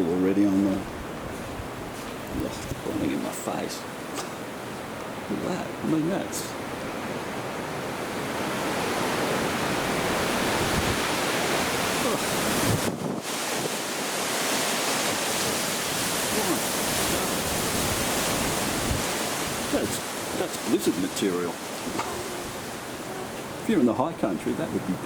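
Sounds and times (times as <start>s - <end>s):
strong wind gusting: 0.0s - 25.0s
wind buffeting microphone: 0.0s - 25.0s.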